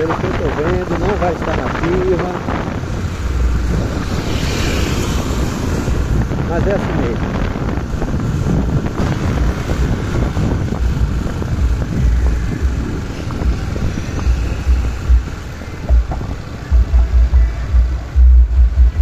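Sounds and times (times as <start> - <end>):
moving vehicle noise: 0.0 - 19.0
wind buffeting microphone: 0.0 - 19.0.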